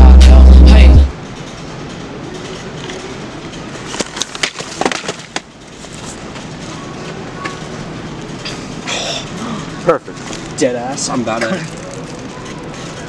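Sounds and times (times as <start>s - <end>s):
supermarket hum: 0.0s - 13.0s.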